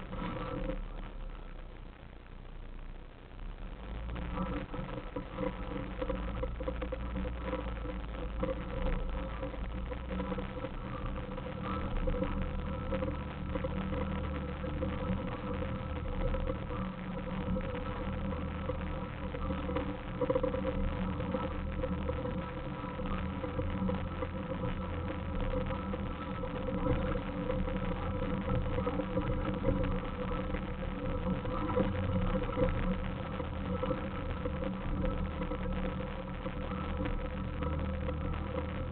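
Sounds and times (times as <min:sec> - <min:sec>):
car engine running at low revs: 0:00.0 - 0:38.9.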